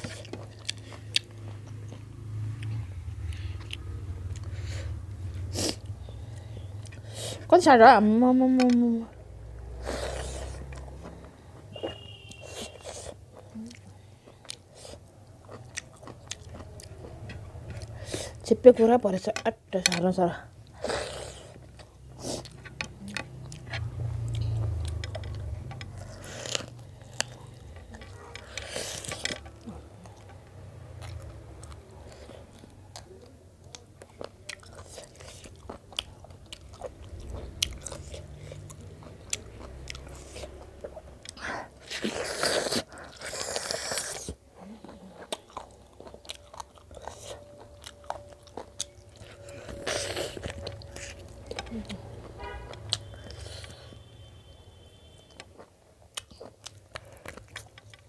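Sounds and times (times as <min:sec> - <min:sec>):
chewing and crunching bones: 0:00.0 - 0:07.8, 0:08.5 - 0:54.3, 0:55.1 - 0:58.0.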